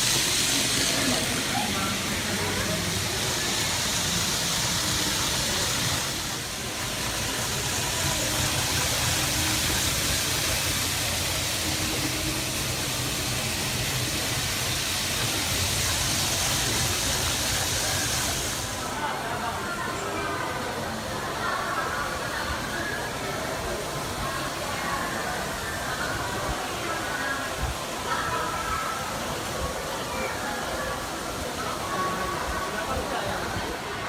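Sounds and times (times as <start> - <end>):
model train rolling on track: 0.0 - 34.0.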